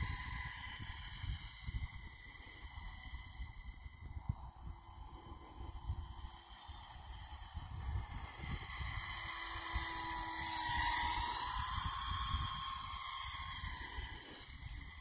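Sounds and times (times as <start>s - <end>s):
model plane motor whine: 0.0s - 15.0s
wind rumble on microphone: 0.0s - 15.0s.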